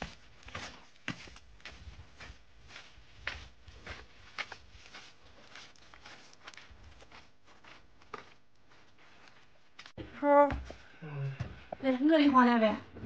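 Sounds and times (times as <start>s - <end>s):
footsteps on dirt: 0.0s - 11.6s.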